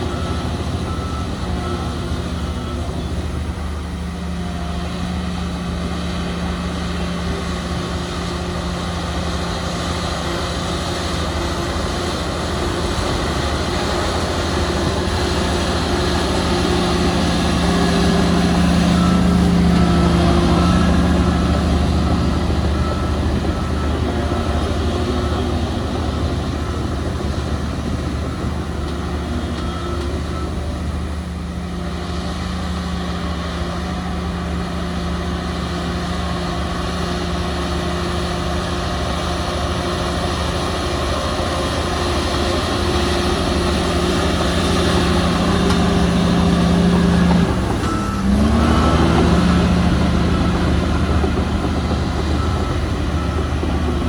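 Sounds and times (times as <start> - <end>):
diesel earthmoving machinery droning: 0.0 - 54.0.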